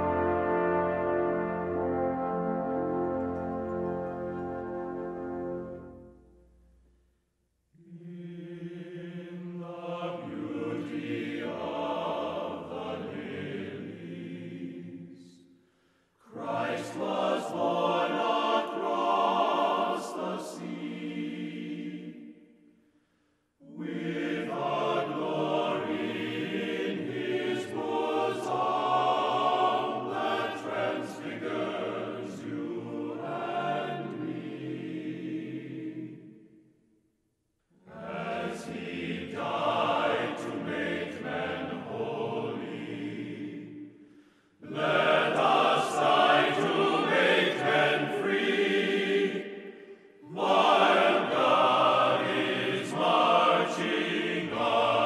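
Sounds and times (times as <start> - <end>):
choir singing: 0.0 - 6.3, 7.8 - 15.5, 16.2 - 22.6, 23.6 - 36.8, 37.8 - 55.0.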